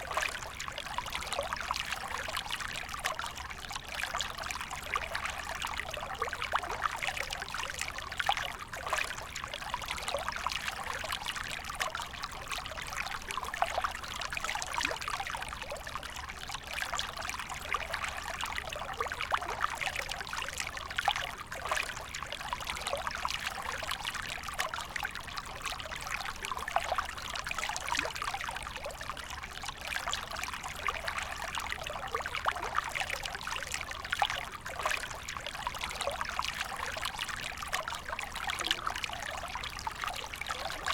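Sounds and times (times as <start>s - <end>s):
creek babbling over stones: 0.0s - 40.9s.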